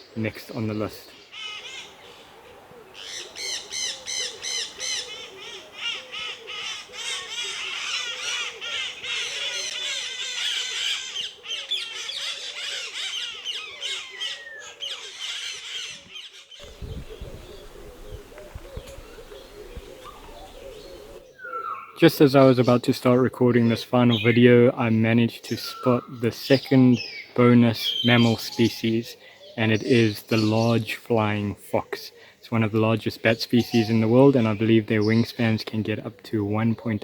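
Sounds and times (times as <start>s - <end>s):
birds chirping and squawking: 0.0s - 37.0s.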